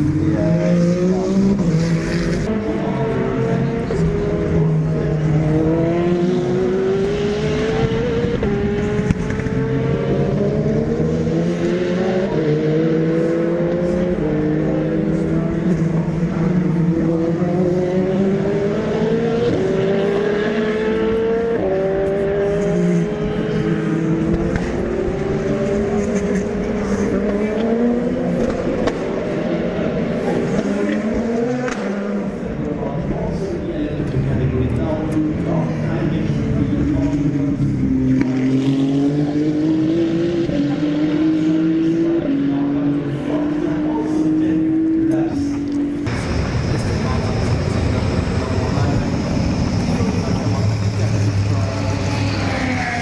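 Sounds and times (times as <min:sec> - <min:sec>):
drone of cars on track: 0:00.0 - 0:53.0
race car engines accelerating: 0:00.0 - 0:53.0.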